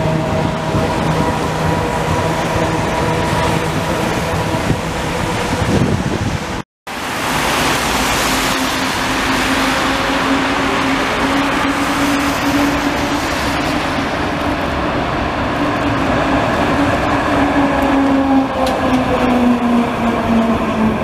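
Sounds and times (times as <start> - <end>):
tram motor hum: 0.0 - 6.6, 7.2 - 21.0
car tyres on wet road: 0.0 - 21.0.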